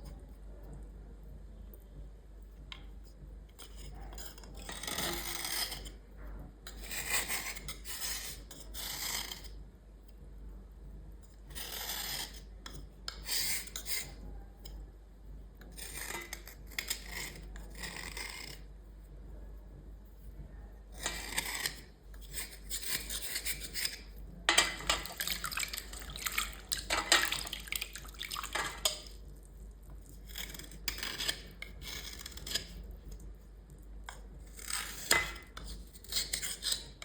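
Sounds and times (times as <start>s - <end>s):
scraping on small hard item: 2.6s - 6.0s, 6.7s - 9.6s, 11.2s - 14.9s, 15.6s - 19.4s, 20.0s - 37.0s.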